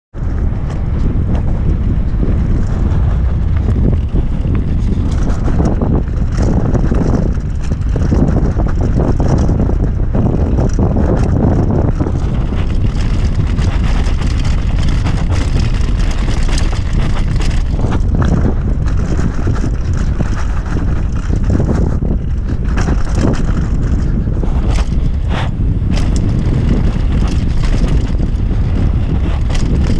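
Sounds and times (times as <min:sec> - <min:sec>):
wind buffeting microphone: 0:00.1 - 0:29.9
bicycle tyres rolling on gravel: 0:00.2 - 0:29.9
bike rattling over stones: 0:00.2 - 0:29.9.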